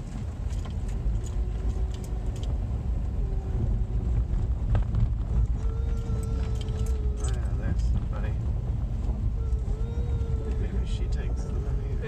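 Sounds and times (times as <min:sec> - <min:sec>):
engine and road noise: 0:00.0 - 0:12.0
rattles and knocks in car: 0:00.0 - 0:12.0
faint hum: 0:00.8 - 0:12.0.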